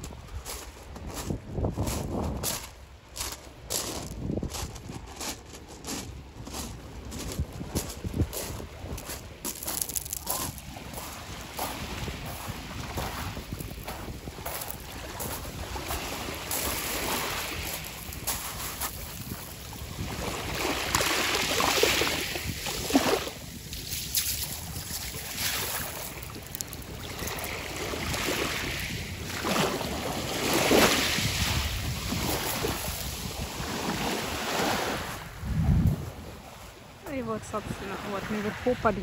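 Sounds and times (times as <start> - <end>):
wind buffeting microphone: 0.0 - 37.9
waves breaking on pebble shore: 0.3 - 39.0.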